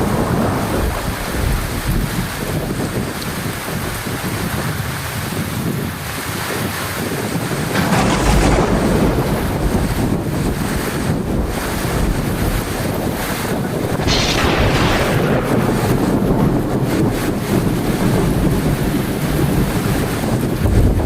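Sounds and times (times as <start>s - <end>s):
heavy rain pouring: 0.0s - 21.0s
rumble of thunder: 0.0s - 21.0s.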